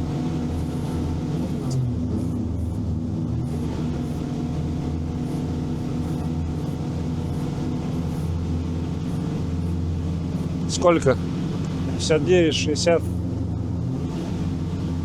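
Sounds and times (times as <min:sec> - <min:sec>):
vehicle engine and drivetrain drone: 0:00.0 - 0:15.0.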